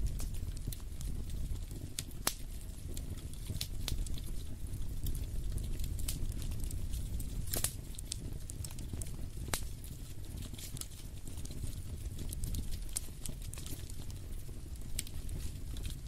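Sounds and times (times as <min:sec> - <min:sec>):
fire popping: 0:00.0 - 0:16.0
low fire rumble: 0:00.0 - 0:16.0
wood fire crackling: 0:00.0 - 0:16.0.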